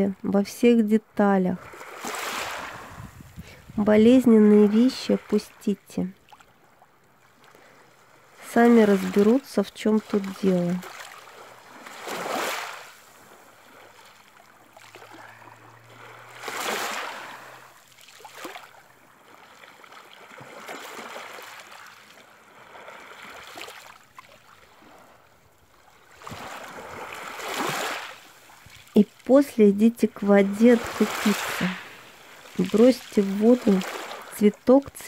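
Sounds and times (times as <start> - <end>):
small waves washing ashore: 1.3 - 35.0.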